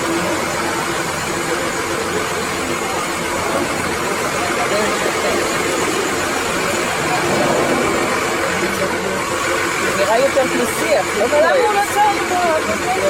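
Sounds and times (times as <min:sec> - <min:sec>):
motor vehicle running: 0:00.0 - 0:13.0.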